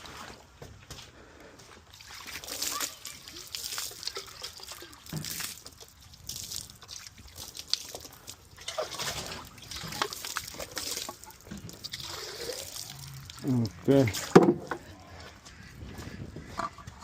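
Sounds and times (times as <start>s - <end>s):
water trickling and splashing: 1.9s - 17.0s.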